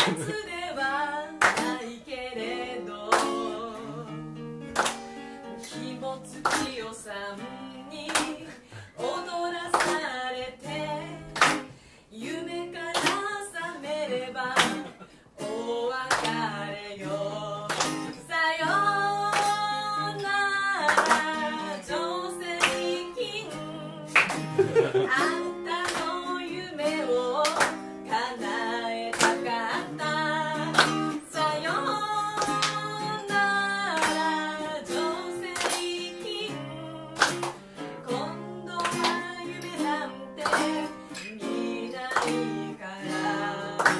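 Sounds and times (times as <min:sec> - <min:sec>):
woman singing into a microphone: 0:00.0 - 0:04.5, 0:05.4 - 0:43.9
strummed acoustic guitar: 0:00.0 - 0:43.9.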